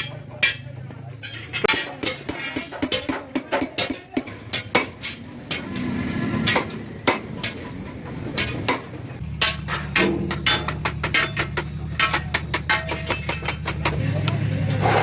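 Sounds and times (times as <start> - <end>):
hammer striking metal: 0.0 - 15.0.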